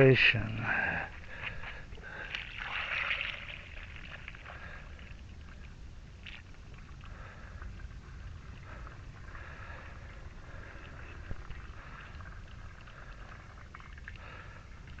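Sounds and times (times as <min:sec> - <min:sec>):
faint liquid trickle: 0:00.0 - 0:15.0.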